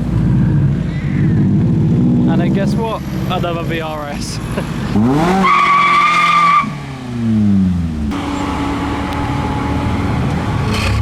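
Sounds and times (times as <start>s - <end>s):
car engine running low: 0.0s - 5.4s, 6.8s - 11.0s.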